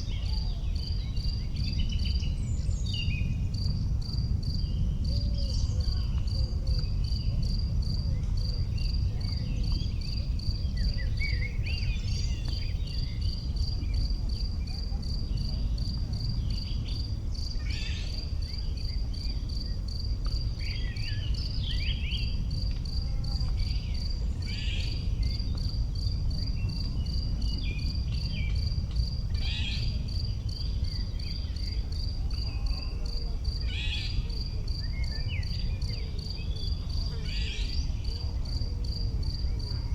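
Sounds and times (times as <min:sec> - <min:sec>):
steady low rumble: 0:00.0 - 0:32.3
cricket chirping: 0:00.0 - 0:39.9.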